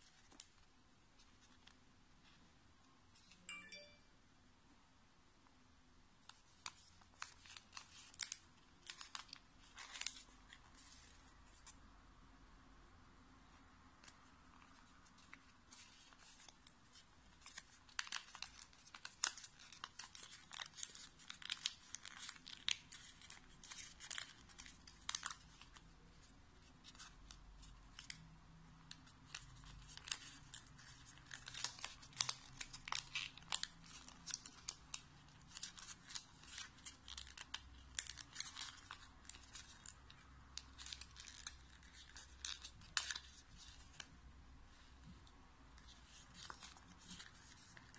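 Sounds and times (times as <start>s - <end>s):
paper crinkling while folded: 0.0s - 2.4s, 6.2s - 11.8s, 14.0s - 45.2s, 45.8s - 47.9s.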